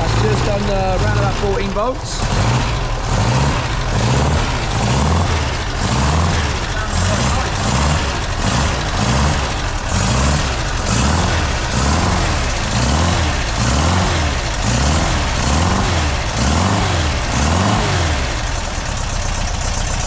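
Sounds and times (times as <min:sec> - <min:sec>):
engine revving up and down: 0:00.0 - 0:20.0.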